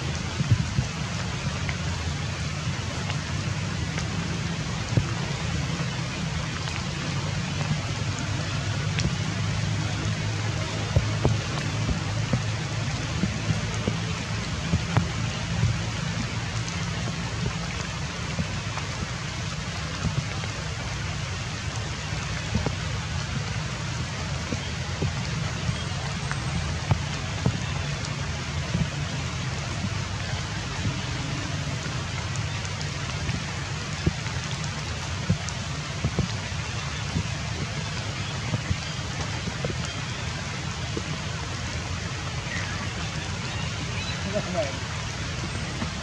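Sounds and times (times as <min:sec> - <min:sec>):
light rain on foliage: 0:00.0 - 0:46.0.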